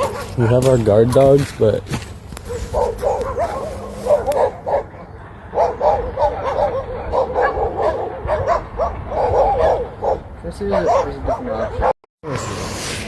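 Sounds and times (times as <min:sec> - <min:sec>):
dogs barking: 0:00.0 - 0:01.5, 0:02.4 - 0:12.0.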